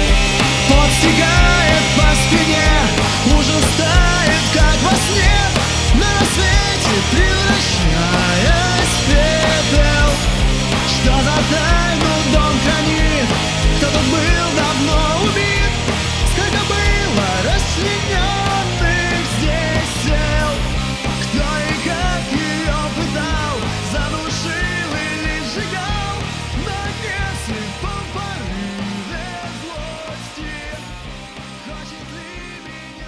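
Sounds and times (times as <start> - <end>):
punk rock band music: 0.0 - 33.0.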